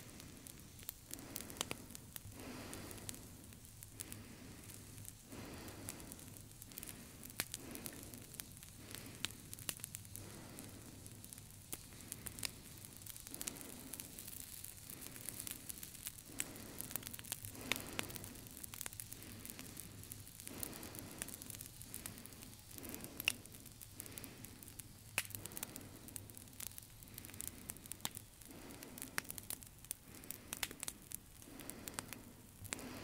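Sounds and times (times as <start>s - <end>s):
crackling static: 0.0s - 33.0s.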